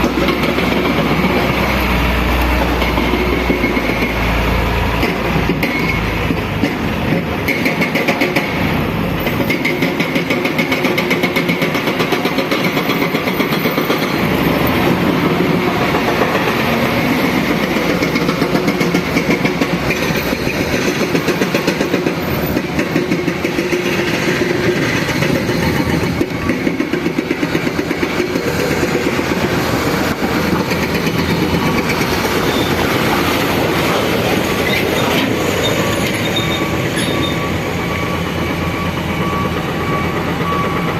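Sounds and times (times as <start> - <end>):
heavy diesel machinery clattering: 0.0 - 40.9.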